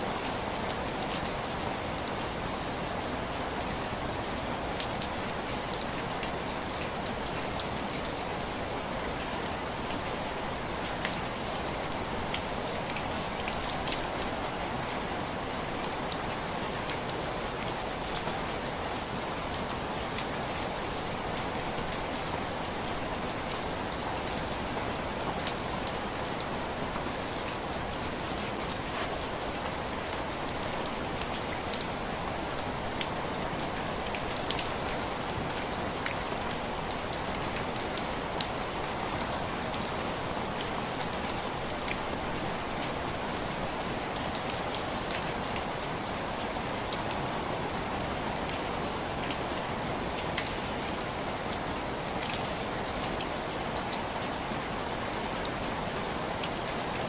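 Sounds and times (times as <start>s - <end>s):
rain on window glass: 0.1s - 57.0s.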